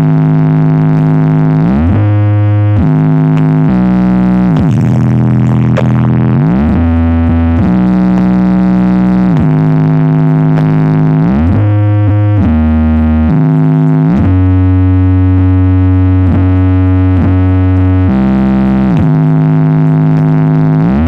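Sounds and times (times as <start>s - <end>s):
synthesizer bass line: 0.0s - 21.0s.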